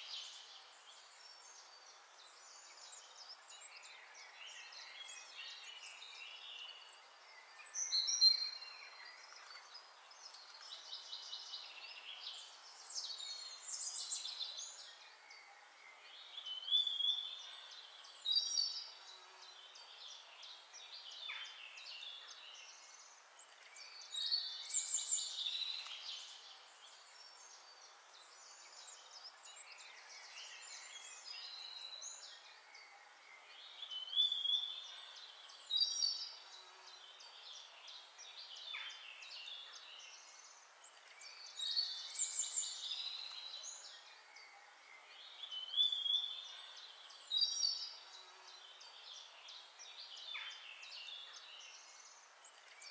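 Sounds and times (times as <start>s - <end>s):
birds chirping and singing: 0.0s - 52.9s
faint steady hiss: 0.0s - 52.9s.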